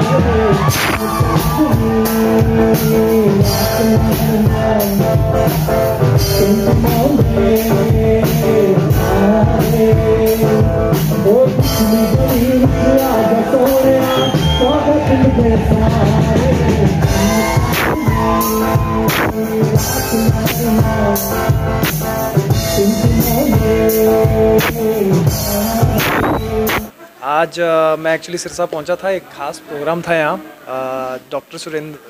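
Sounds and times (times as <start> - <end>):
drum kit beat: 0.0 - 27.0
electric guitar: 0.0 - 27.0
person singing: 0.0 - 27.0.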